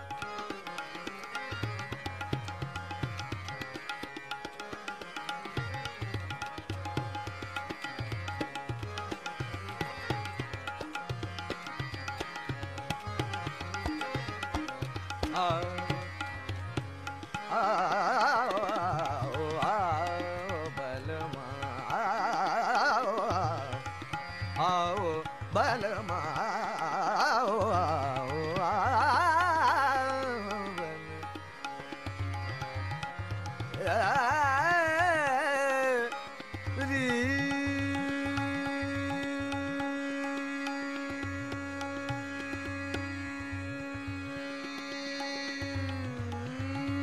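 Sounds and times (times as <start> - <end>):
tabla: 0.0 - 47.0.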